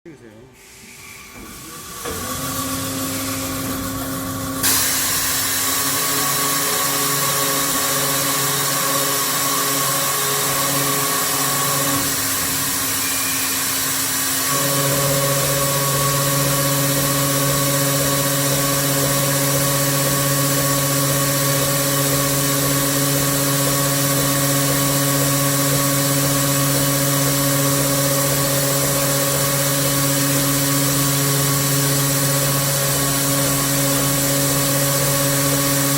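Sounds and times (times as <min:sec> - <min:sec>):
pipe cutting machine hum: 0:01.4 - 0:35.9
loud even hiss: 0:04.6 - 0:35.5.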